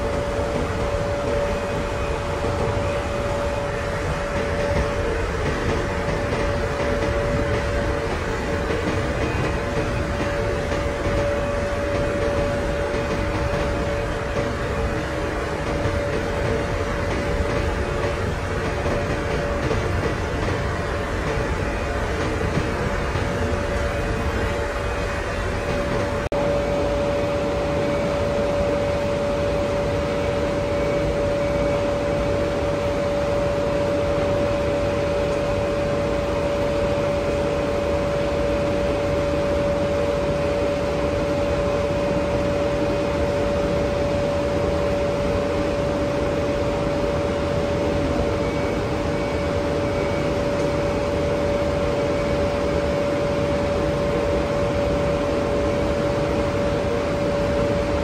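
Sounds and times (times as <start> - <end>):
machinery drone: 0.0 - 58.0.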